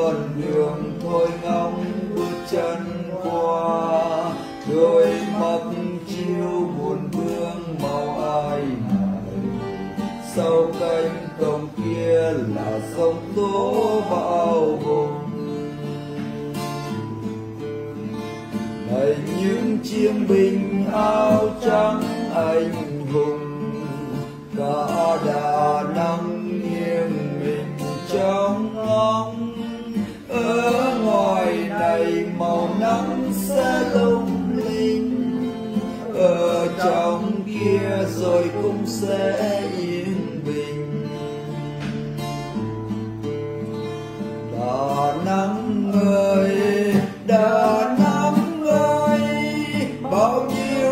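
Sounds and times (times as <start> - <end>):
man singing: 0.0 - 42.8, 44.4 - 50.9
strummed acoustic guitar: 0.0 - 50.9.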